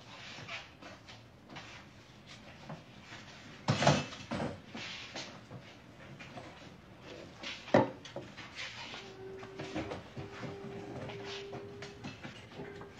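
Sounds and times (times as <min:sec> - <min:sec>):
soft clatter and shuffling: 0:00.0 - 0:12.9.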